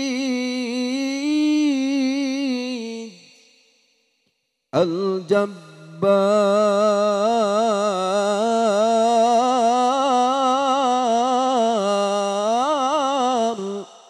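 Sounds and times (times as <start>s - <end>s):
man reciting in melodic chant: 0.0s - 3.6s, 4.8s - 14.0s.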